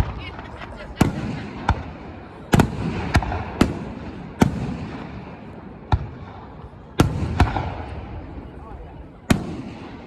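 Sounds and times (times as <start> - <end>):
fireworks bursting with echo: 0.0 - 10.0.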